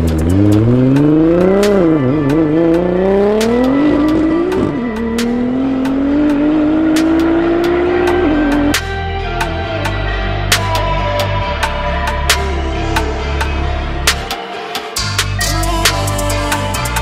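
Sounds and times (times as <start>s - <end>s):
car engine at full throttle: 0.0s - 14.4s.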